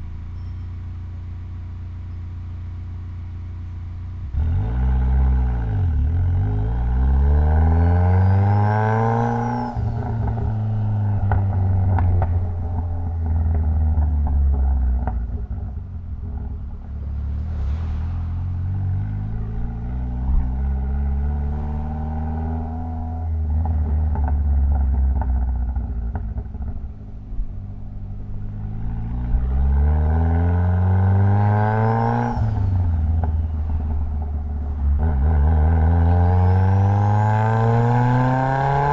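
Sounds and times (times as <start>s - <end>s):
car engine pulling hard: 0.0s - 38.9s.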